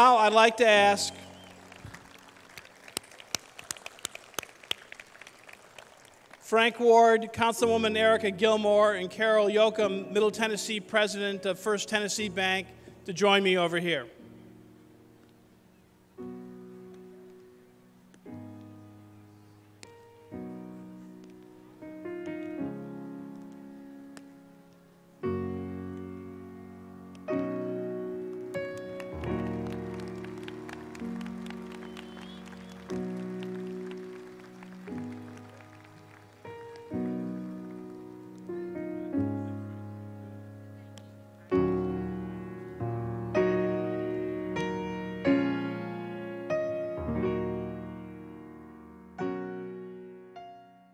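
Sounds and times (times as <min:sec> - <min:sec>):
slow piano chords: 0:00.0 - 0:03.5, 0:07.2 - 0:50.9.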